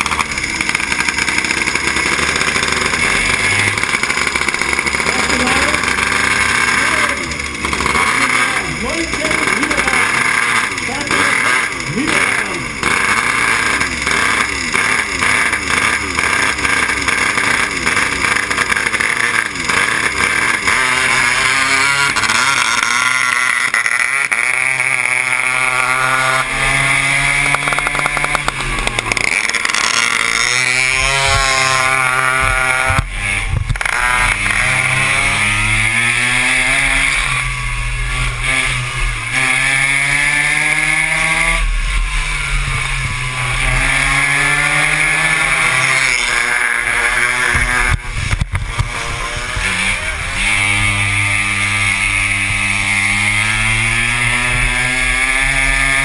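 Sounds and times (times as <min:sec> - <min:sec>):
several engines revving: 0:00.0 - 0:56.0
small two-stroke engine revving: 0:00.0 - 0:56.0.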